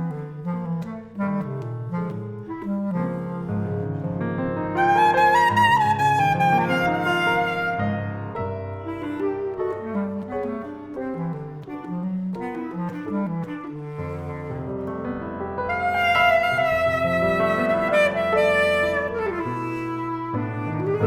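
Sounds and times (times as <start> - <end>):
bass clarinet: 0.0 - 21.0
piano: 0.0 - 21.0.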